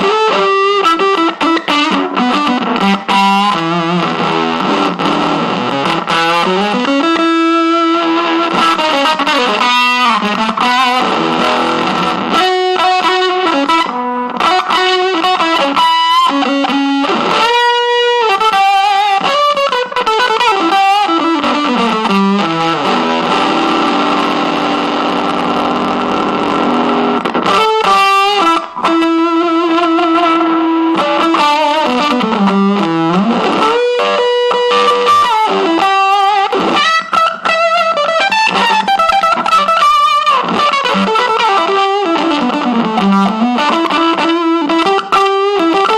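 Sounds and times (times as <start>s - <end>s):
distorted electric guitar: 0.0s - 45.9s.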